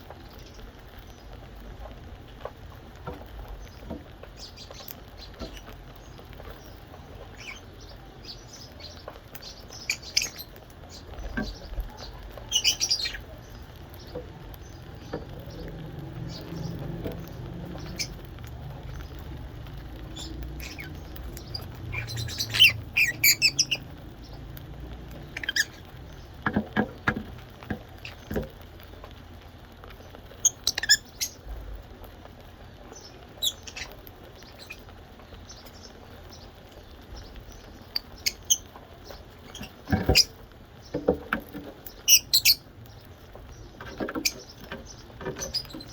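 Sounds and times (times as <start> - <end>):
small birds chirping and squeaking: 0.0 - 45.9.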